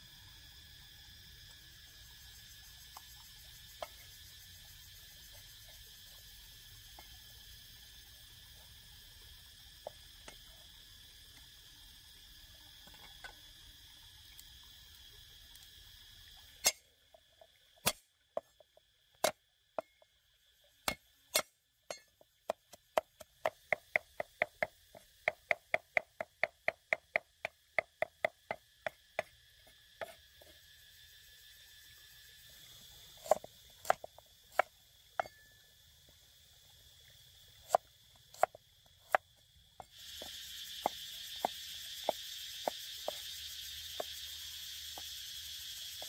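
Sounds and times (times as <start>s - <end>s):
high drone of insects: 0.0s - 46.0s.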